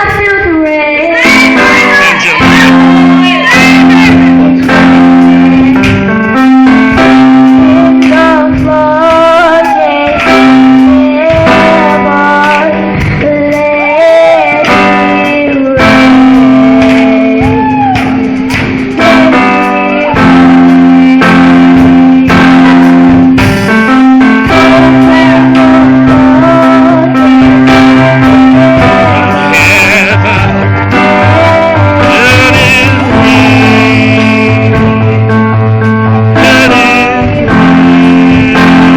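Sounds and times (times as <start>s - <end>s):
live worship band playing: 0.0s - 38.9s
person singing: 0.0s - 38.9s.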